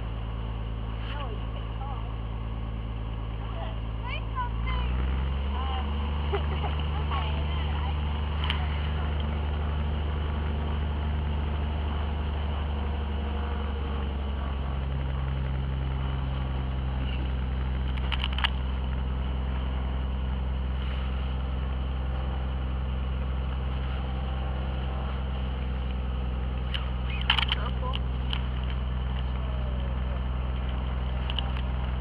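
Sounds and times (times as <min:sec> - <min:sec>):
propeller plane engine: 0:00.0 - 0:32.0.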